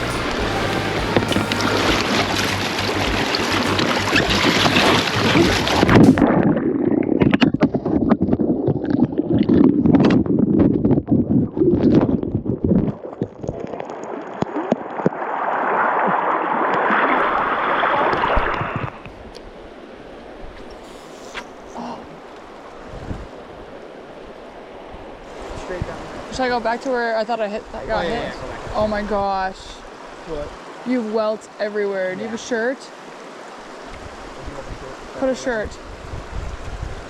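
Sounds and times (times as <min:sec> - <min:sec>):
rushing river water: 0:00.0 - 0:06.6, 0:13.6 - 0:37.0.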